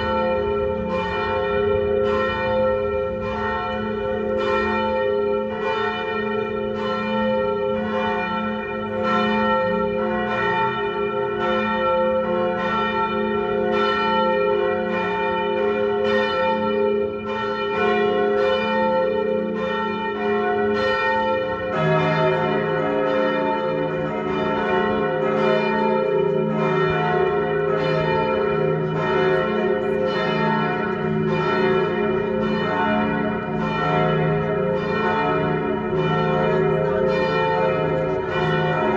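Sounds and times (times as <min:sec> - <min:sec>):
church bells ringing in a peal: 0:00.0 - 0:38.9
deeper bell ringing: 0:00.0 - 0:38.9.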